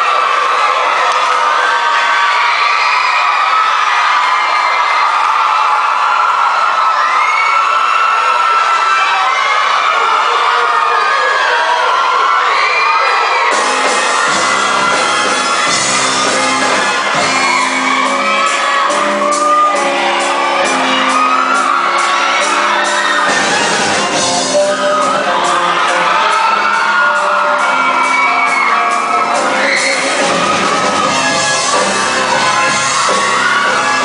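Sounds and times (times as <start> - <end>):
people shouting and whooping: 0.0 - 34.0.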